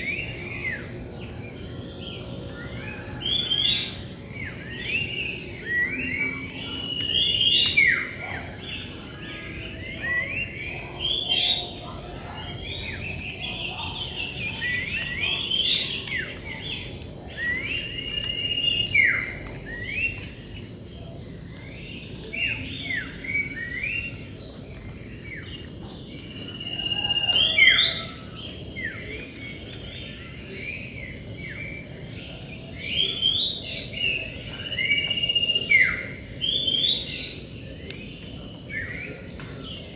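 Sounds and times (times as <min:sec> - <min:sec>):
high-pitched drone of insects: 0:00.0 - 0:39.9
wild birds calling and singing: 0:00.0 - 0:39.9.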